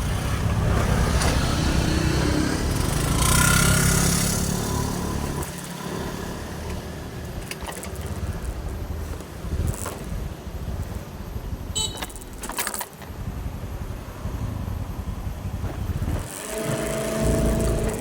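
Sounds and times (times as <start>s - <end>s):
motorcycle engine running: 0.0s - 12.4s, 13.0s - 18.0s.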